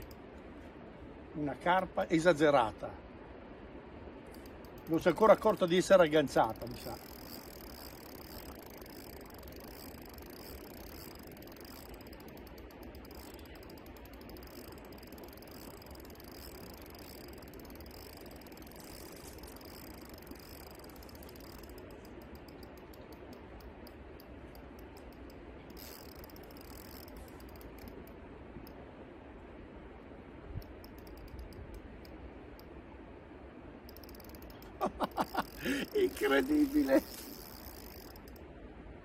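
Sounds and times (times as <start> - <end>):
fishing reel clicking: 0.0 - 0.2, 4.3 - 28.8, 30.6 - 32.7, 33.8 - 38.5
steady low hiss: 0.0 - 39.0.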